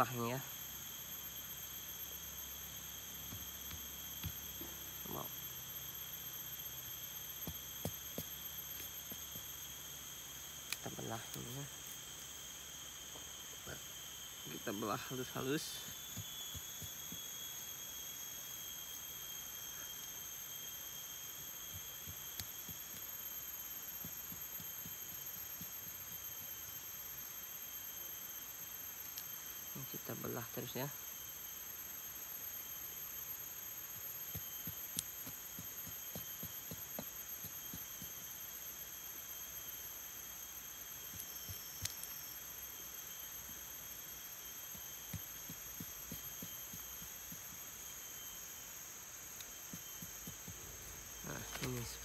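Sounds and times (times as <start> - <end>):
high drone of insects: 0.0 - 52.0.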